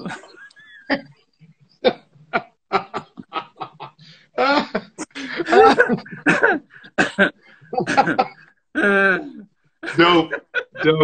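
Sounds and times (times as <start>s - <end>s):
men laughing: 0.0s - 1.2s, 1.8s - 11.0s.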